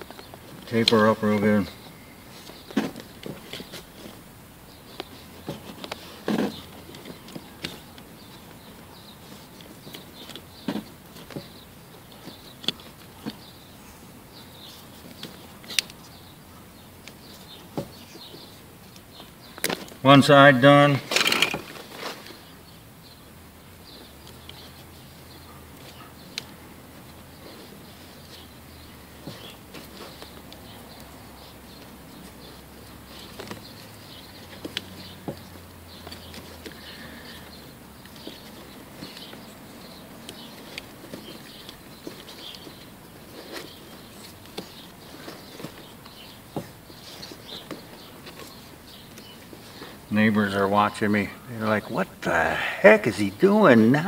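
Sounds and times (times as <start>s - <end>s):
electrical tape clicks and rustles: 1.8s - 13.7s, 14.3s - 20.0s, 21.0s - 22.5s, 23.8s - 50.1s.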